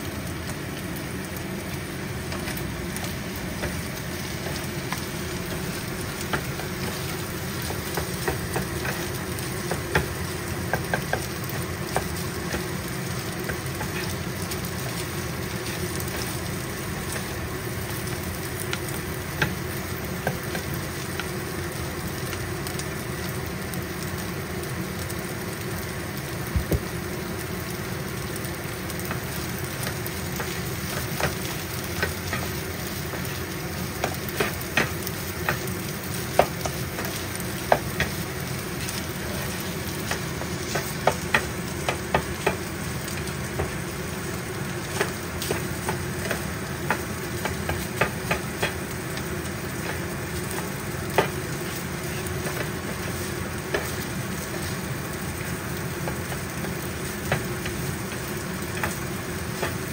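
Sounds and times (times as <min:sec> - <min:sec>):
fried rice sizzling in a pan: 0:00.0 - 0:59.9.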